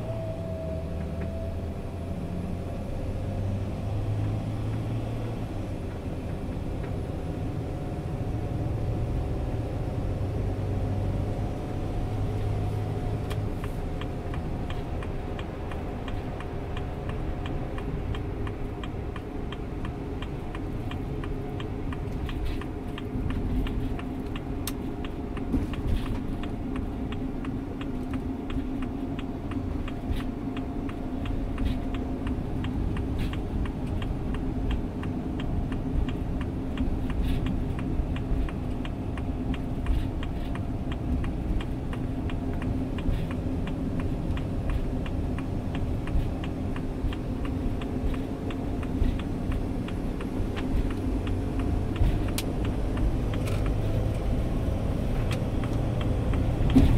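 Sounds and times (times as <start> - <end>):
low rumble with hum: 0.0 - 56.9.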